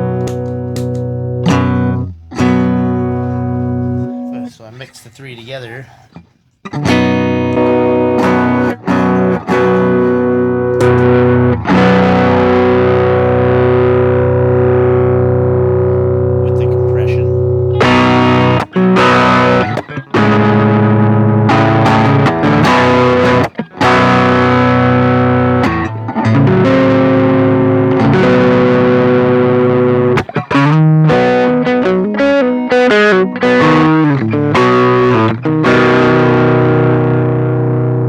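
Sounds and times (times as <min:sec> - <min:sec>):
distorted electric guitar: 0:00.0 - 0:04.4, 0:06.1 - 0:38.0.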